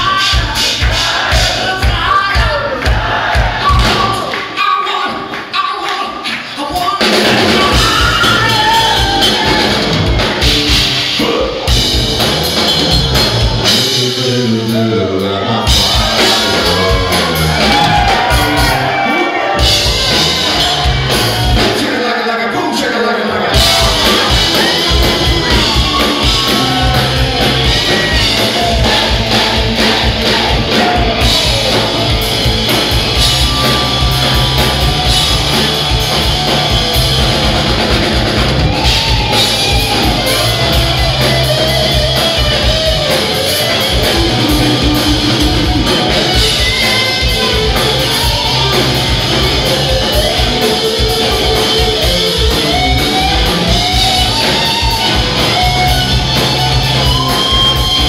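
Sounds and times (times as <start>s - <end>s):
drum kit: 0.0s - 5.3s, 6.2s - 22.0s, 23.4s - 58.0s
electric bass: 7.0s - 22.0s, 23.4s - 58.0s
electric guitar leads: 7.0s - 58.0s.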